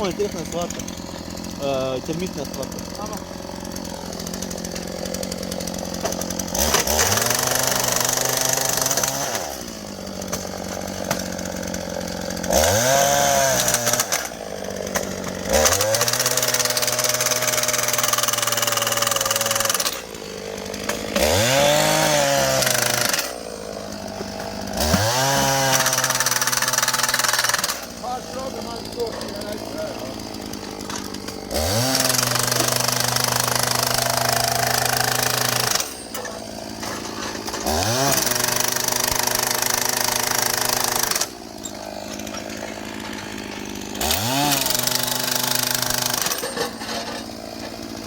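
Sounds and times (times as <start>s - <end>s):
small petrol engine revving: 0.0s - 48.0s.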